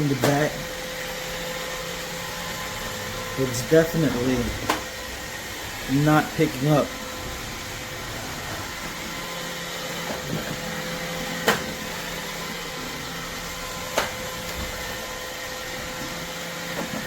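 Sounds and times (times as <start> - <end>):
robot vacuum whirring: 0.2 - 17.0.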